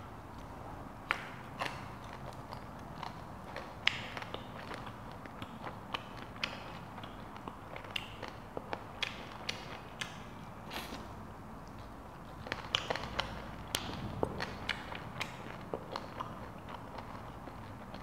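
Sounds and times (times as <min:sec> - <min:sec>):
chewing and lip smacks: 0:00.4 - 0:11.0, 0:11.6 - 0:18.0.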